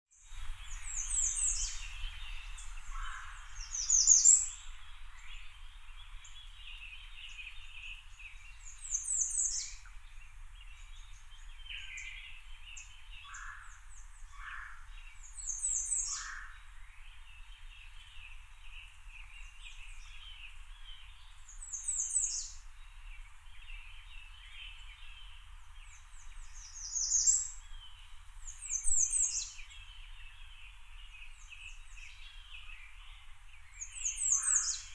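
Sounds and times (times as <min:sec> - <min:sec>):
birds chirping: 0:00.4 - 0:34.9.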